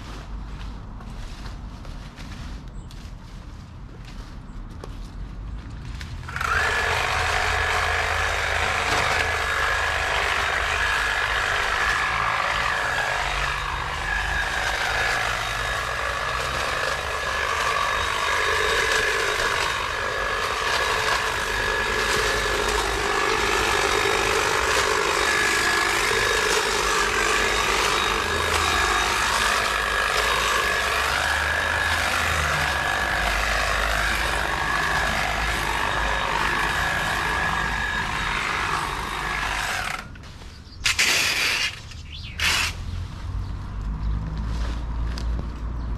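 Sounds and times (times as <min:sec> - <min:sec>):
battery garden power tool whining: 0:06.1 - 0:43.4.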